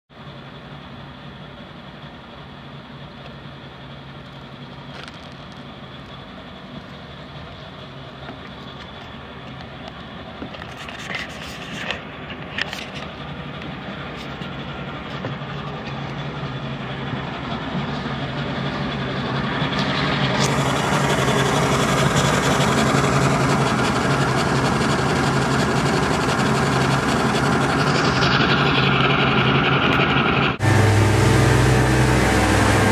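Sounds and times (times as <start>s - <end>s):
boat engine humming: 0.1s - 32.9s
rushing noise: 0.2s - 32.9s.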